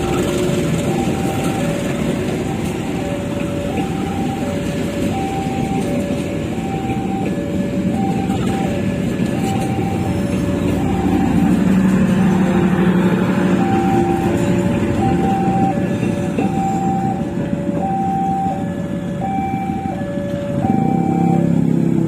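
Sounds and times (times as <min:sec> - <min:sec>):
level-crossing alarm two tones: 0:00.0 - 0:12.7, 0:13.4 - 0:21.6
generator car rumble: 0:00.0 - 0:22.0
train wheels rumbling on rails: 0:00.0 - 0:22.0.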